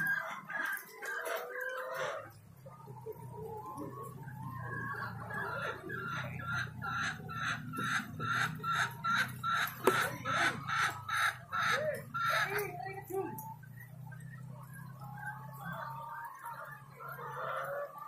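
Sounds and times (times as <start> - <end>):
bird calling: 0.0 - 18.0.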